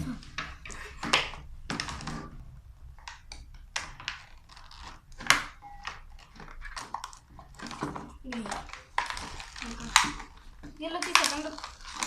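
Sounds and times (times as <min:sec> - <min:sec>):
cardboard and plastic packaging rustling: 0:00.0 - 0:12.0.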